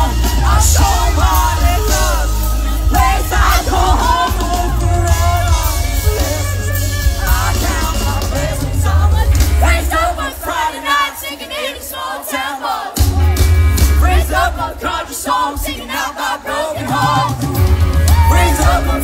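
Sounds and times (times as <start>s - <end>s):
man singing: 0.0s - 10.6s, 13.9s - 19.0s
live rock band: 0.0s - 11.6s, 12.7s - 19.0s.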